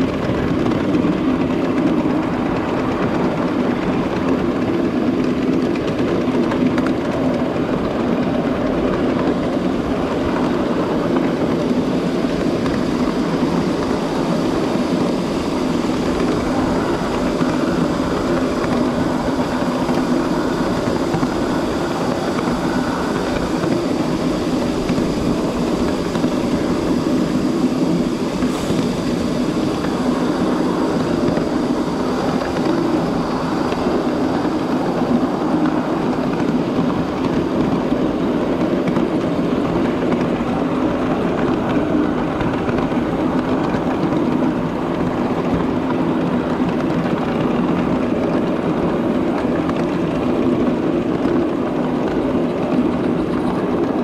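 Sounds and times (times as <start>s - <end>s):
constant low hum: 0.0s - 54.0s
miniature train wheels on rails: 0.0s - 54.0s.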